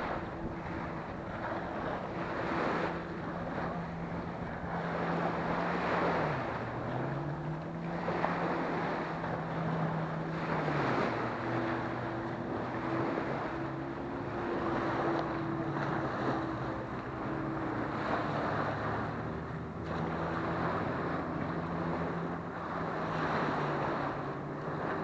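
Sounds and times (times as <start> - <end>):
waves washing up beach: 0.0 - 25.0
wind buffeting microphone: 0.0 - 25.0.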